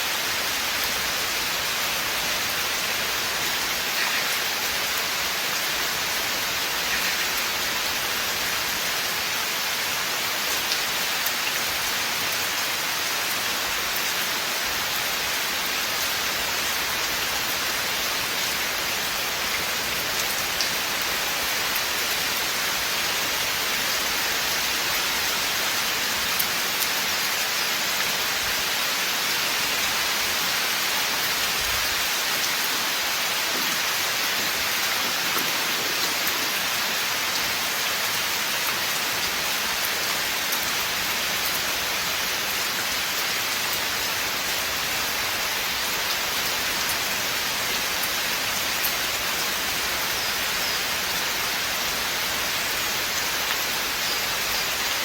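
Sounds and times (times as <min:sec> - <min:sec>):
rain falling in forest: 0:00.0 - 0:55.0.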